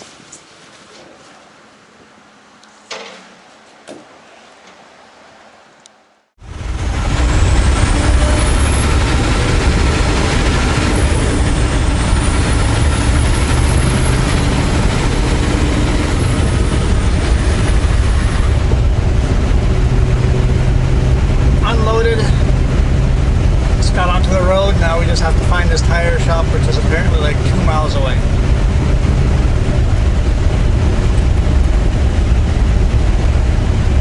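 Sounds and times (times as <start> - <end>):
road and cab noise: 0.0 - 34.0
truck diesel engine running: 6.4 - 34.0.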